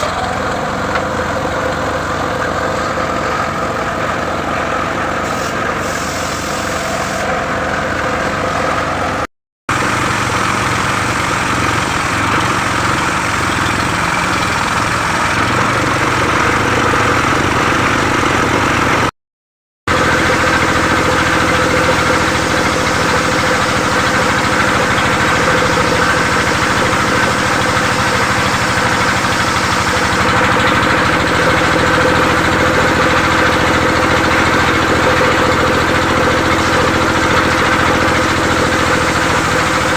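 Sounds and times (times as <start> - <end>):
saw engine running: 0.0 - 19.1, 19.9 - 39.9.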